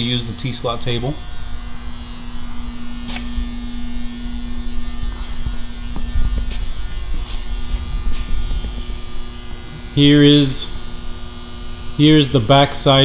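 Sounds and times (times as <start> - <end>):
electrical hum: 0.0 - 13.0
low rumble: 1.0 - 12.0.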